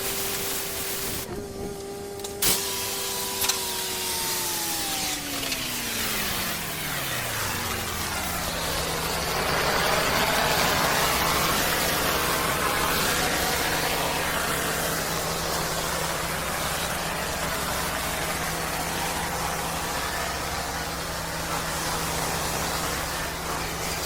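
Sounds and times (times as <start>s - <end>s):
engine running steadily: 0.0s - 24.0s
water spray hissing: 2.4s - 24.0s.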